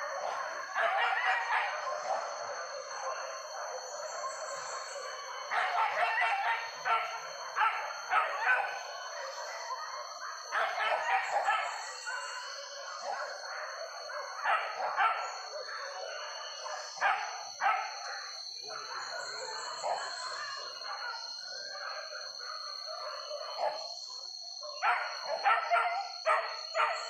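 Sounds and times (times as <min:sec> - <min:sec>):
dogs barking and baying: 0:00.0 - 0:24.0, 0:24.7 - 0:27.0.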